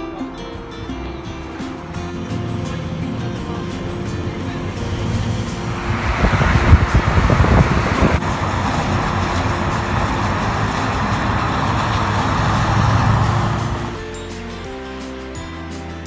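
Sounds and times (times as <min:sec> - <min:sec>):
music with steady notes: 0:00.0 - 0:06.9, 0:08.2 - 0:16.0
road vehicle rumbling hiss: 0:00.7 - 0:14.3.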